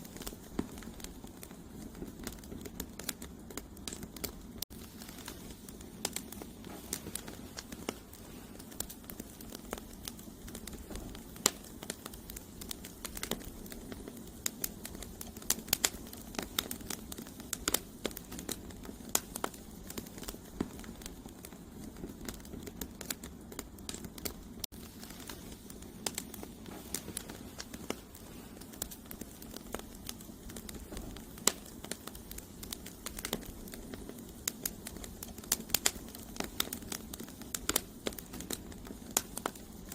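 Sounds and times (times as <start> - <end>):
logs crackling and popping: 0.0 - 39.9
low rush of flame: 0.0 - 39.9.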